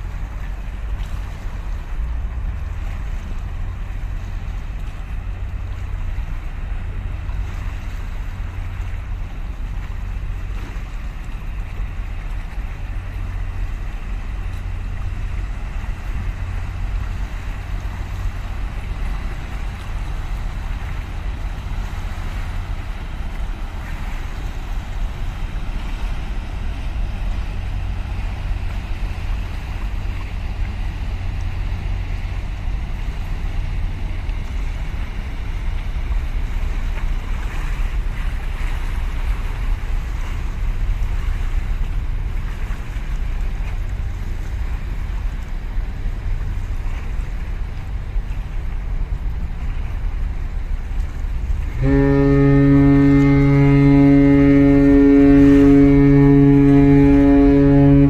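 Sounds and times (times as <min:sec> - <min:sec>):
ship engine rumble: 0:00.0 - 0:58.0
water noise: 0:00.0 - 0:58.0
wind: 0:00.0 - 0:58.0.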